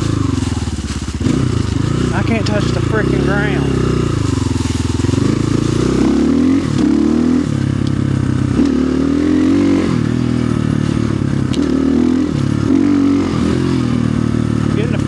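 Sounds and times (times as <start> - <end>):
clatter: 0.0 - 15.0
dirt bike engine revving: 0.0 - 15.0.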